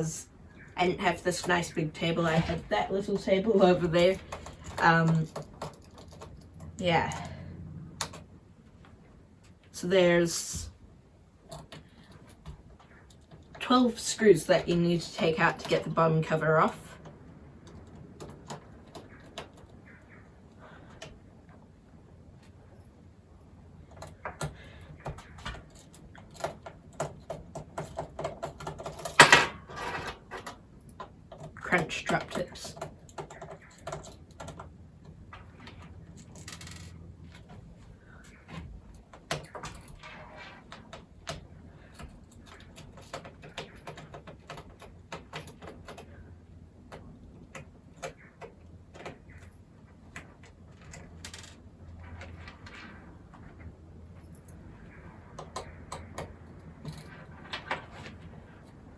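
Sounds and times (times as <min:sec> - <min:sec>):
low steady hum: 0:00.0 - 0:58.9.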